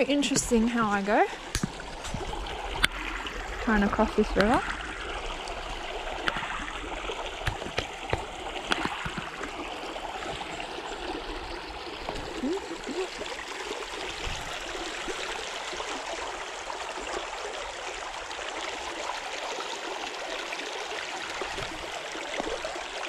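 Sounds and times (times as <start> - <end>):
creek gurgling over rocks: 0.0 - 23.0.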